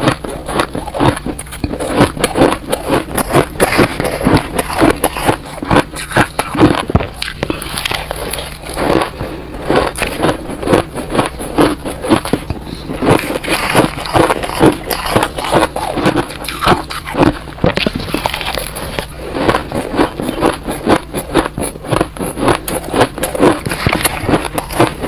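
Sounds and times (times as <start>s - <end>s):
chewing and crunching ice: 0.0s - 25.0s.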